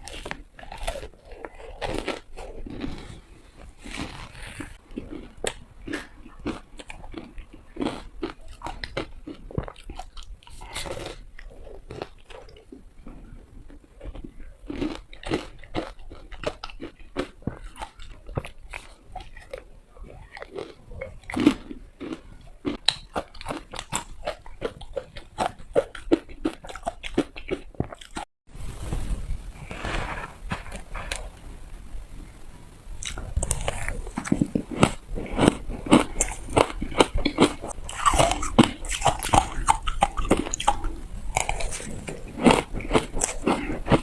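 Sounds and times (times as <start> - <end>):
ice being chewed: 0.0 - 28.3, 33.0 - 44.0.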